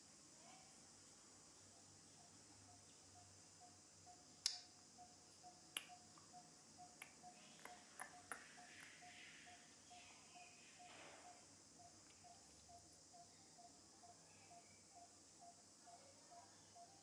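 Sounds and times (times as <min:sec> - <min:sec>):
faint high peeps: 0:02.2 - 0:17.0.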